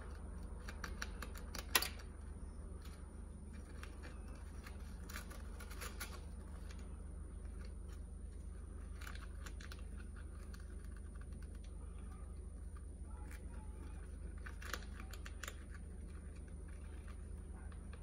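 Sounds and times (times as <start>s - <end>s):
small clicks and scratches: 0.0s - 18.0s
steady low hum: 0.0s - 18.0s.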